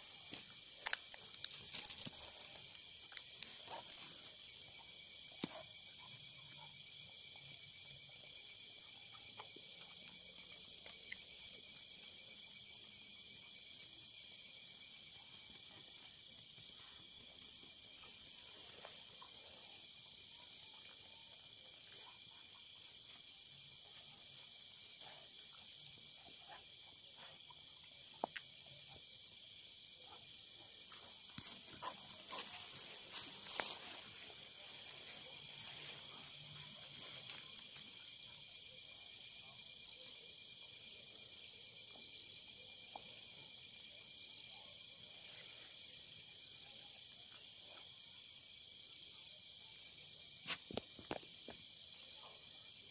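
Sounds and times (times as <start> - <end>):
night insects chorus: 0.0 - 52.9.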